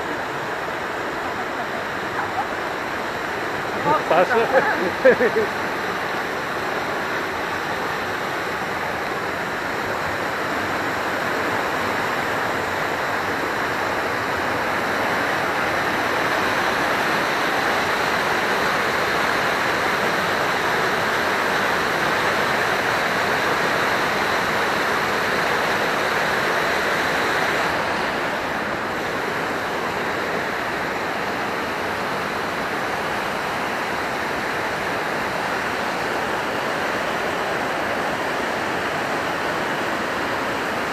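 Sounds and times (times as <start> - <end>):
rushing mountain stream: 0.0 - 40.9.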